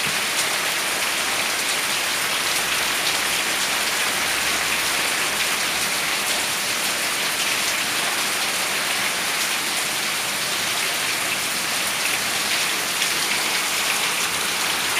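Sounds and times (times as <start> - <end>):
steady rain falling: 0.0 - 14.9
water pouring off a roof: 0.0 - 14.9.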